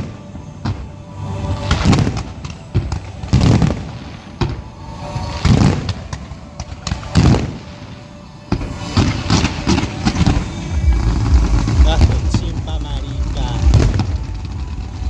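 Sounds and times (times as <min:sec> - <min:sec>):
fireworks booming: 0:00.0 - 0:15.0.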